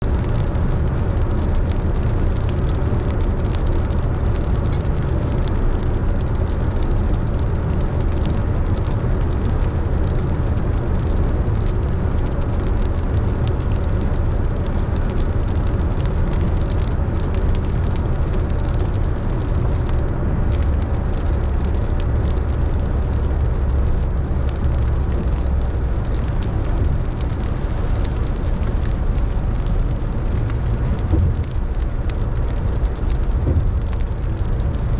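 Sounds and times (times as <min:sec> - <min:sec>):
car driving on wet road: 0:00.0 - 0:34.9
rain patter on car: 0:00.0 - 0:34.9.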